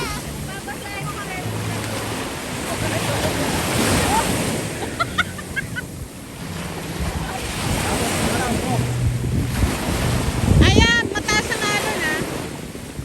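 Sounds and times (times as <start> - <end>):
ocean surf on beach: 0.0 - 13.0
wind buffeting microphone: 2.4 - 13.0.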